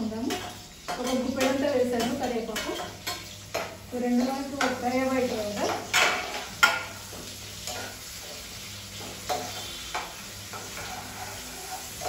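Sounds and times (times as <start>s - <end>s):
onions sizzling in hot oil: 0.0s - 12.0s
spatula knocking and scraping a wok: 0.2s - 12.0s.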